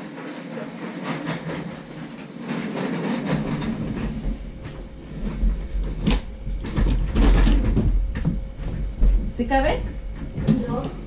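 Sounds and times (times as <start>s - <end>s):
rustling and knocking: 0.3s - 11.0s.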